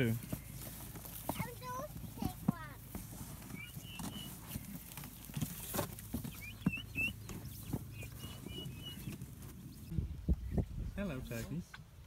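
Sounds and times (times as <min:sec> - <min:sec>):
young turkeys peeping: 0:00.0 - 0:10.9.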